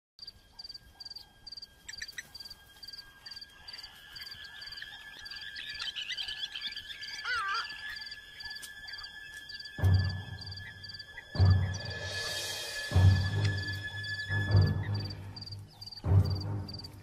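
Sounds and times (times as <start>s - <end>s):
birds calling: 0.2s - 17.0s
lower wavering call: 1.9s - 15.5s
high-pitched drone: 1.9s - 16.8s
repeating high chirp: 1.9s - 16.9s.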